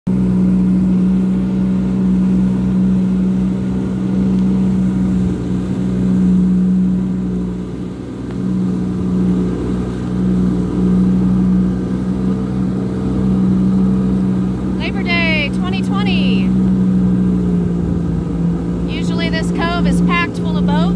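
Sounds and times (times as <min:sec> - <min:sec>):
jet ski engine droning: 0:00.1 - 0:20.9.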